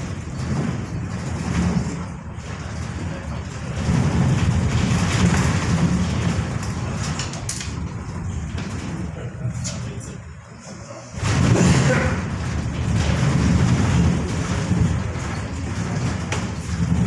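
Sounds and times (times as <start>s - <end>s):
ship hull rumbling through ice: 0.0s - 17.0s.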